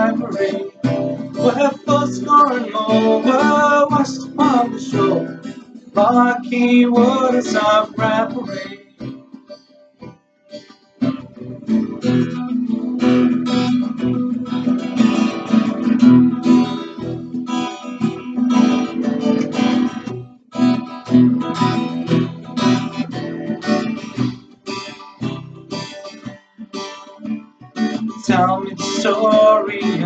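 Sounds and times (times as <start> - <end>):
acoustic guitar strummed chords: 0.0 - 30.0.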